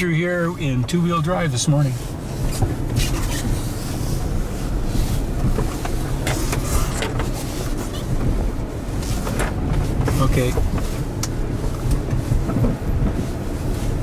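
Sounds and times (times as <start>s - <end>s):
engine and tyres rumbling: 0.0s - 14.0s.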